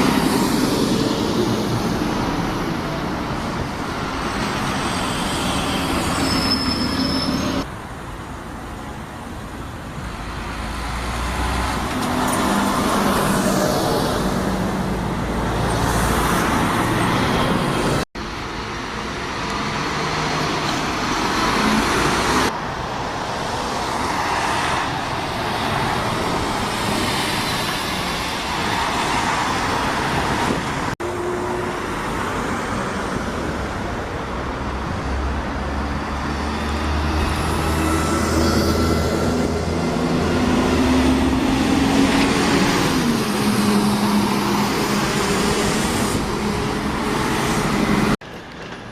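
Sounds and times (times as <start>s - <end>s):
road traffic: 0.0s - 48.9s.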